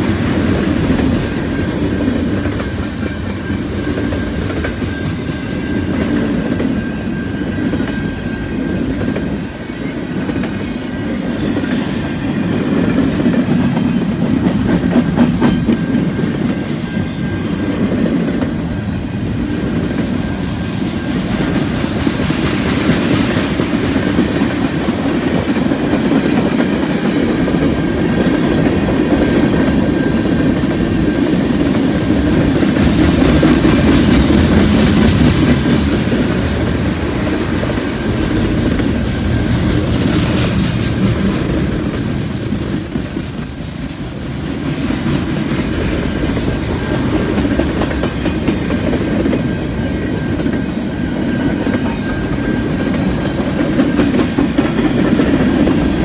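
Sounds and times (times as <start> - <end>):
freight train wheels rumbling and clacking: 0.0 - 56.0.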